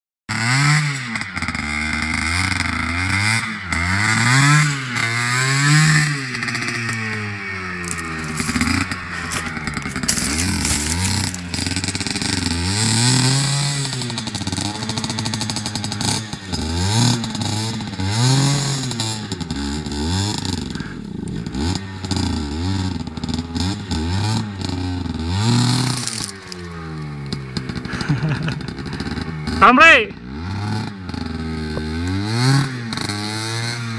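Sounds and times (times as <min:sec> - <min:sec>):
dirt bike engine revving: 0:00.3 - 0:33.9.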